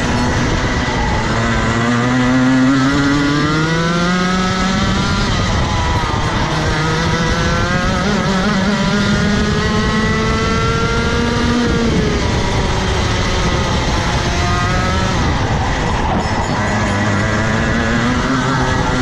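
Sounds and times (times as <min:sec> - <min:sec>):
kart engine at full throttle: 0:00.0 - 0:19.0.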